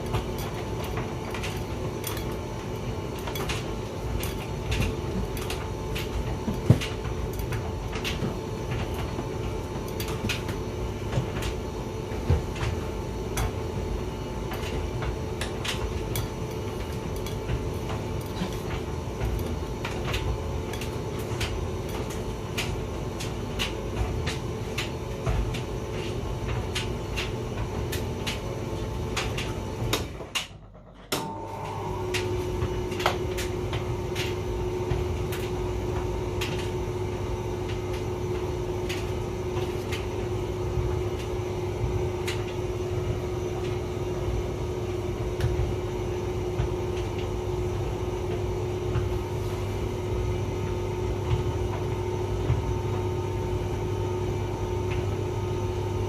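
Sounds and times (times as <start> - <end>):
tumble dryer running: 0.0 - 56.0.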